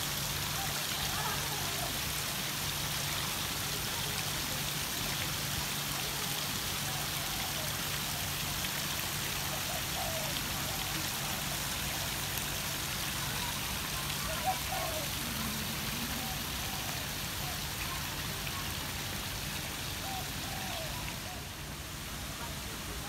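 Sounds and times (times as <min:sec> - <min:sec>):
water splashing down a cascade: 0:00.0 - 0:23.0.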